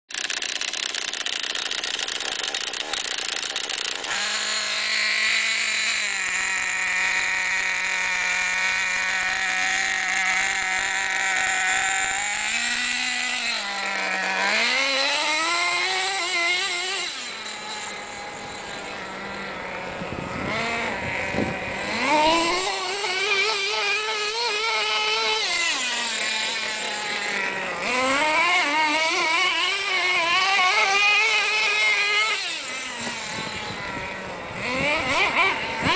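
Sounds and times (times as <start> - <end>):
toy truck engine idling and revving: 0.1 - 35.9.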